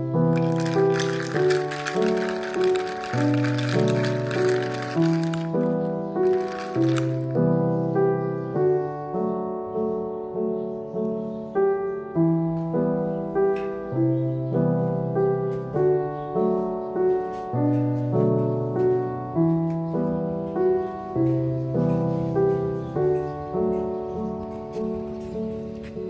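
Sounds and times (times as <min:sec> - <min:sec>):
gentle solo piano piece: 0:00.0 - 0:26.0.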